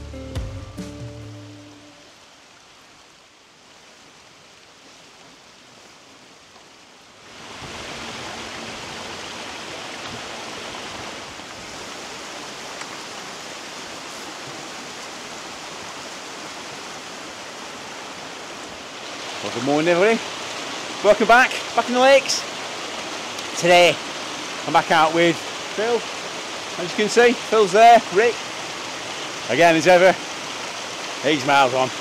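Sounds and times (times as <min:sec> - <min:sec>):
stream rushing over rocks: 0:01.4 - 0:32.0.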